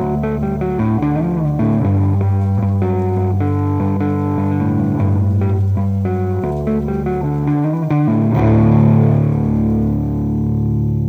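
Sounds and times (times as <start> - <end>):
guitar chord ringing: 0.0 - 11.0
guitar picking single notes: 0.0 - 11.0.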